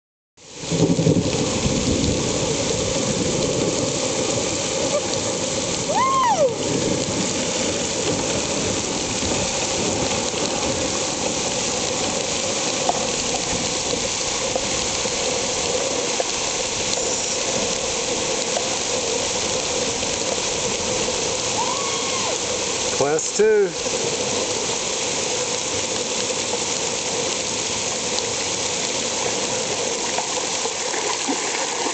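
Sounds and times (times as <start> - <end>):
heavy rain on wet ground: 0.4 - 31.9
running floodwater: 0.4 - 31.9.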